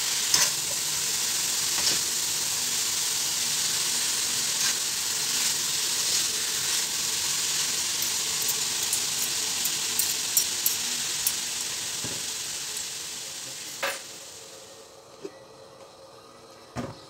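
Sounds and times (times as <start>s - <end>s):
vegetables sizzling in oil: 0.0s - 14.9s.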